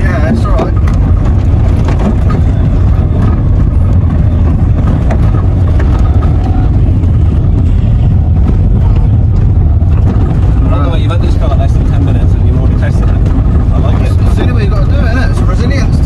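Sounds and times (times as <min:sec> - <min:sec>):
car engine and tyres rumbling: 0:00.0 - 0:16.0
car knocks and rattles: 0:00.0 - 0:16.0.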